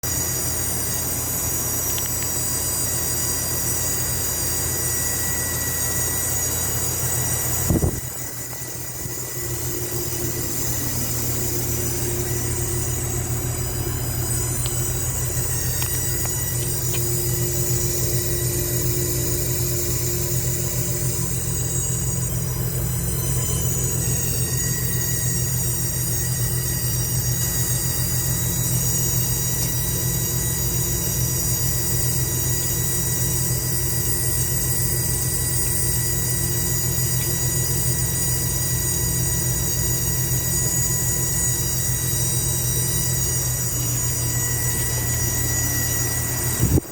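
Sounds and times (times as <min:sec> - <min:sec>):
air conditioner condenser humming: 0:00.0 - 0:46.9.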